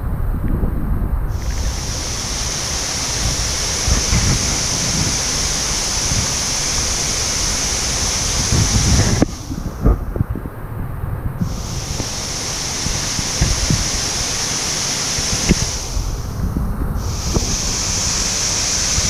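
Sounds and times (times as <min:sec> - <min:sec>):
steady rushing noise: 0:00.0 - 0:19.0
wind buffeting on microphone: 0:00.0 - 0:19.0.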